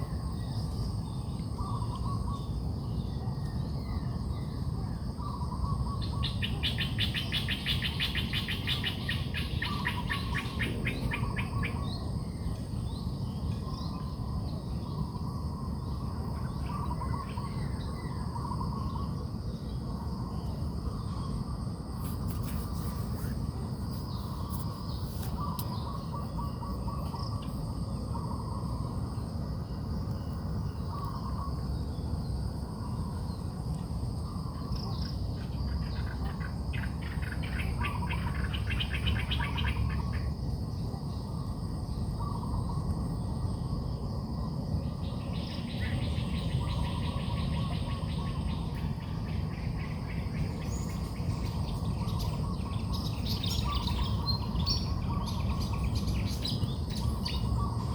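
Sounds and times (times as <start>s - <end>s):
insects buzzing: 5.2s - 57.9s.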